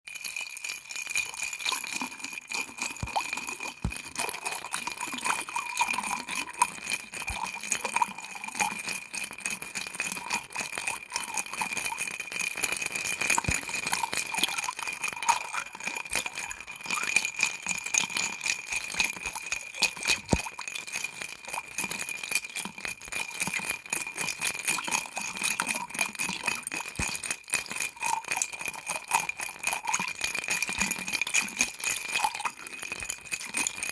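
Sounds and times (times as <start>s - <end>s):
ice cubes clinking in glass: 0.1s - 21.0s, 23.8s - 33.9s.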